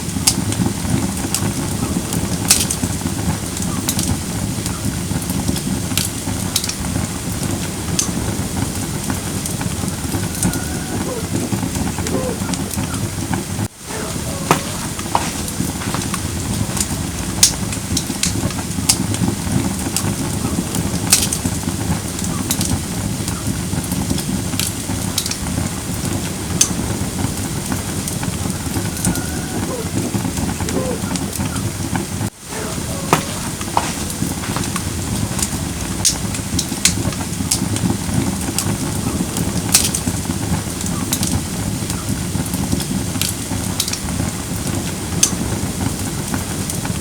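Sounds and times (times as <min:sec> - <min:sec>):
burning logs popping: 0:00.0 - 0:47.0
fire crackling and rushing: 0:00.0 - 0:47.0.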